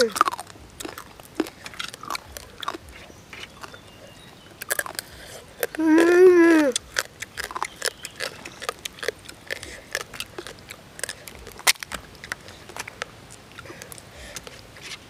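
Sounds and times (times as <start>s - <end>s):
chewing: 0.0s - 15.0s
crab shells crunching and cracking: 0.0s - 15.0s.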